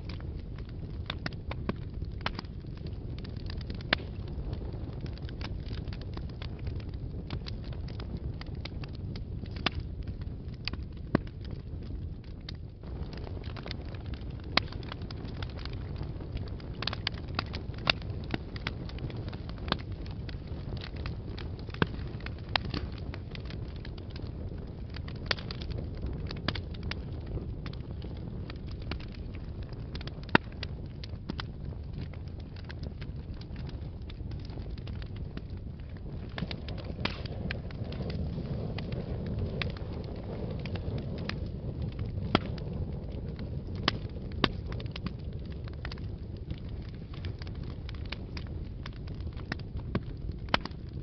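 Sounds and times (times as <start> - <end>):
rush of flames: 0.0 - 51.0
wood crackling and popping: 0.0 - 51.0.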